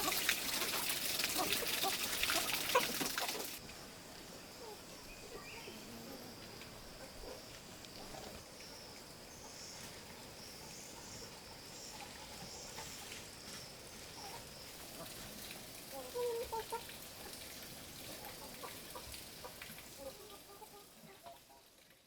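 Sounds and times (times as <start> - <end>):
chickens clucking: 0.0 - 3.7, 4.6 - 21.7.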